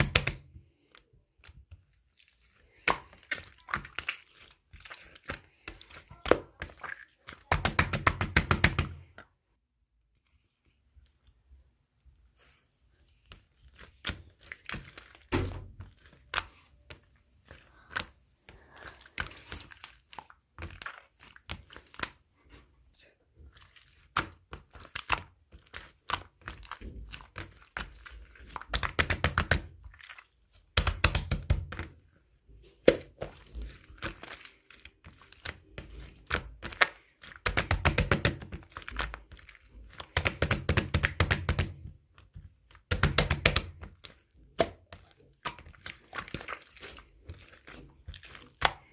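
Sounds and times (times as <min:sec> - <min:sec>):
slime squished by hand: 0:00.0 - 0:09.2, 0:10.3 - 0:22.3, 0:23.4 - 0:48.9.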